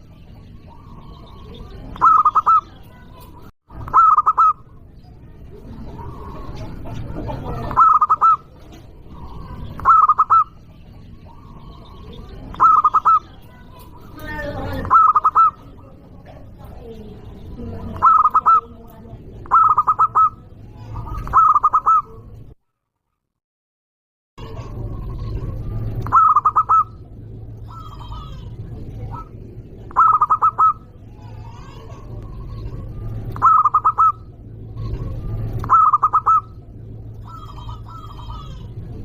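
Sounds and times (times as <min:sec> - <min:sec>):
dove cooing: 0:00.0 - 0:03.1, 0:03.8 - 0:22.3, 0:24.4 - 0:39.0
low background rumble: 0:00.0 - 0:22.6, 0:24.4 - 0:39.0.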